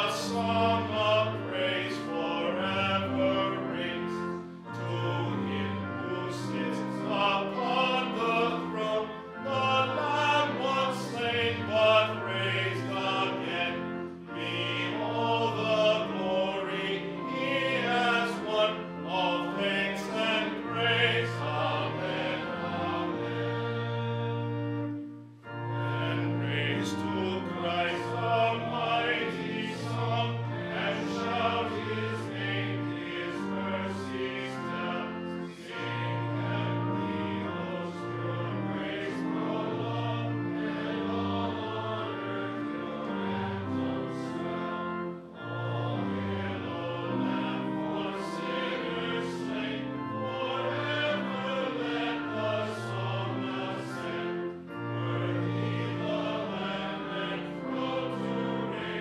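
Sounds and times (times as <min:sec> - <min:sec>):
congregation singing a hymn: 0:00.0 - 0:59.0
instrumental accompaniment: 0:00.0 - 0:59.0.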